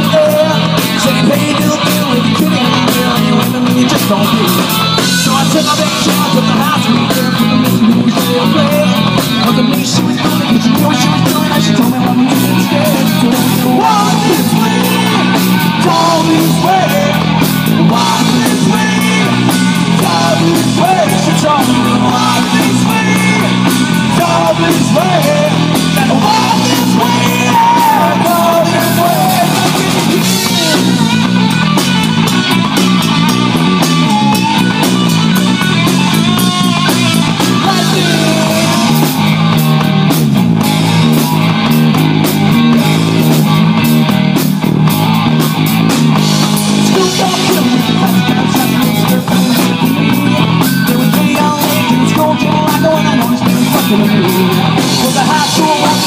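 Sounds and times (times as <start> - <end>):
man singing: 0.0 - 31.3, 34.1 - 39.7, 46.4 - 56.0
bass guitar: 0.0 - 56.0
drum kit: 0.0 - 56.0
guitar: 0.0 - 56.0.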